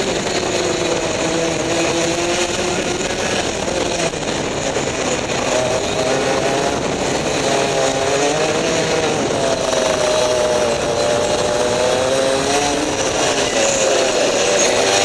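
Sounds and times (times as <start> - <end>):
kart engine running hard: 0.0 - 15.0.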